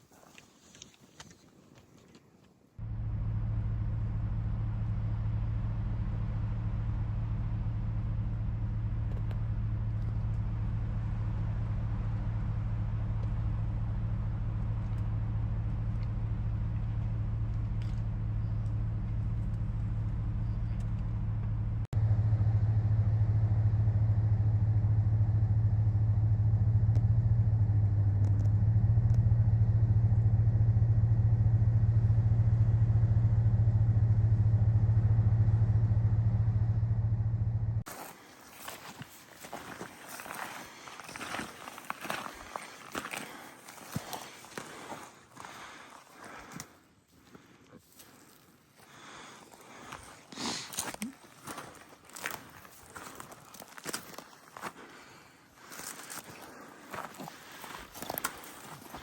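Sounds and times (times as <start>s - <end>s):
vehicle engine droning: 2.8s - 59.0s.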